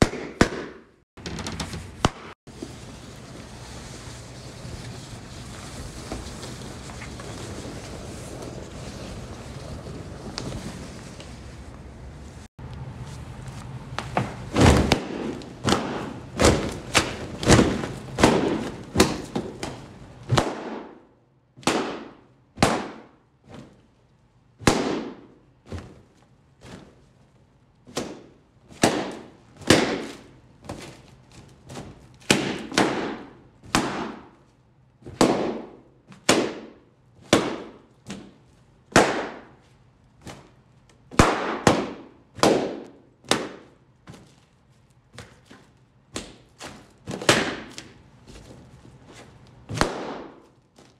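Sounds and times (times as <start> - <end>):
balloons bursting: 0.0 - 10.6, 14.3 - 23.8, 24.6 - 26.2, 27.9 - 31.0, 31.6 - 39.6, 40.2 - 45.4, 46.1 - 48.0, 49.6 - 50.6.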